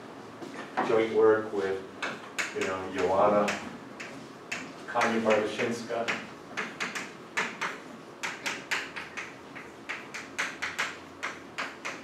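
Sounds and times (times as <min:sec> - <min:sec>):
chalk tapping on a blackboard: 0:02.0 - 0:12.0.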